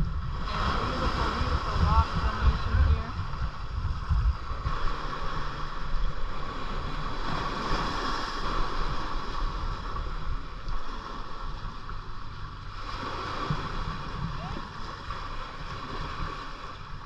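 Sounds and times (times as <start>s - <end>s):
water lapping at kayak: 0.0s - 17.0s
wind buffeting microphone: 0.0s - 17.0s.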